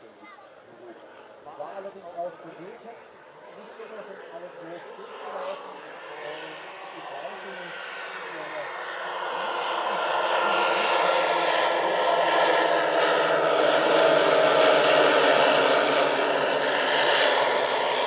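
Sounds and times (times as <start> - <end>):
model engines droning: 0.0 - 18.0.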